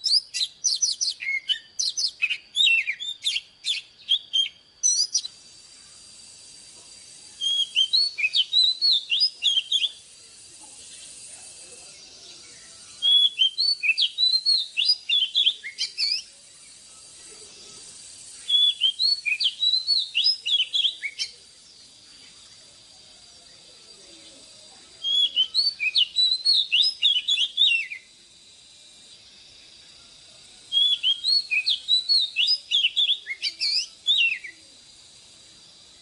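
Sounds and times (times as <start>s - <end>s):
bird whistled song: 0.0s - 11.3s, 12.0s - 22.6s, 23.5s - 28.2s, 30.6s - 36.0s.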